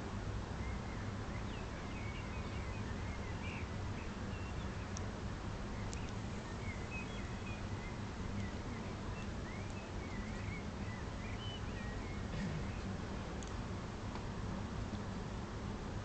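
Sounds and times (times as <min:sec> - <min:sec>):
outdoor background hum: 0:00.0 - 0:16.0
faint bird chirps: 0:00.6 - 0:13.5.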